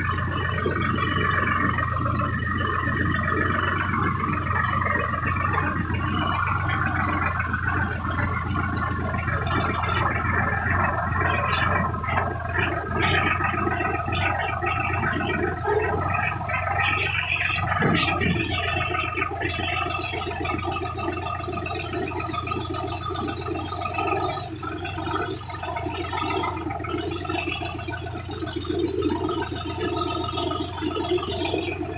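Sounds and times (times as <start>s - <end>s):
tractor diesel engine humming: 0.0s - 31.9s.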